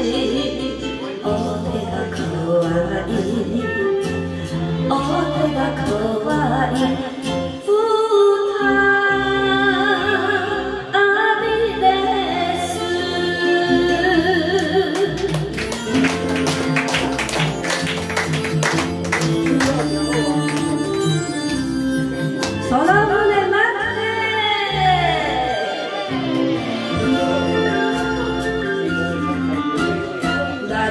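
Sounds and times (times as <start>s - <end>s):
woman singing karaoke: 0.0s - 16.2s, 19.3s - 21.8s, 22.5s - 25.8s, 27.0s - 30.9s
backing track music: 0.0s - 30.9s.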